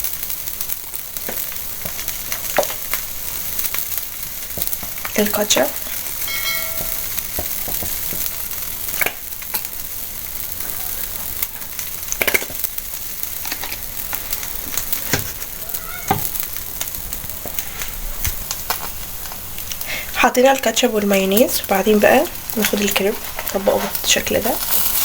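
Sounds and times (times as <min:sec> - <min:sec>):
crepe sizzling in a frying pan: 0:00.0 - 0:25.0.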